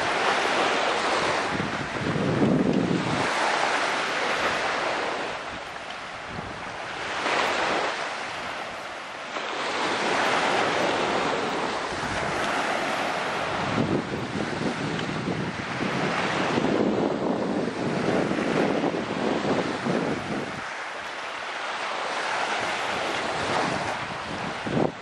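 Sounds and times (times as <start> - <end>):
sea waves washing ashore: 0.0 - 25.0
wind buffeting microphone: 0.0 - 25.0.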